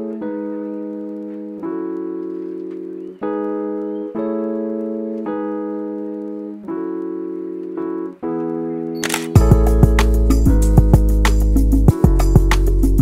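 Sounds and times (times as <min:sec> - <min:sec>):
soft keyboard chords: 0:00.0 - 0:13.0.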